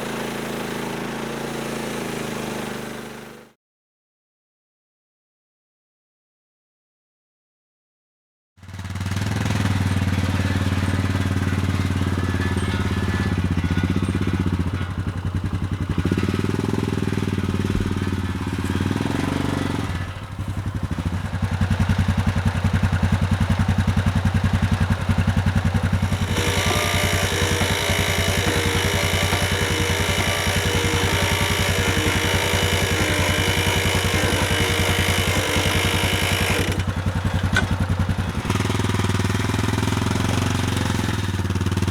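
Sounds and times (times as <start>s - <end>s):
sawmill engine running: 0.0s - 3.5s, 8.8s - 41.9s.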